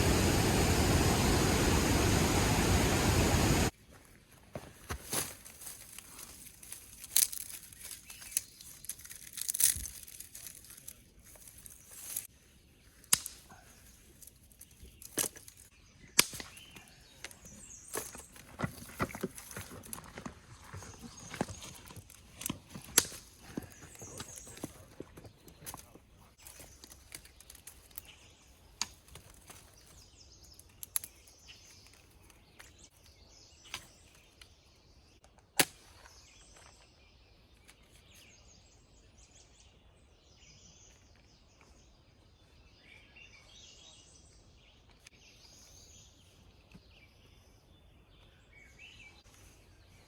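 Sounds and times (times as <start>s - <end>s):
birds chirping softly: 5.5s - 50.0s.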